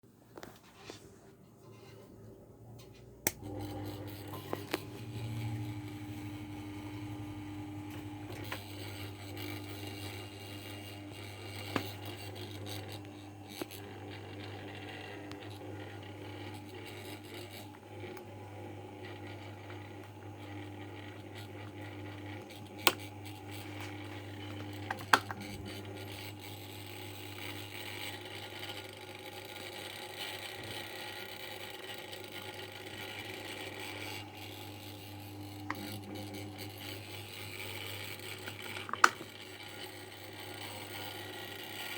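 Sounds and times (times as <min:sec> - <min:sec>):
fan buzzing hum: 0:00.4 - 0:41.9.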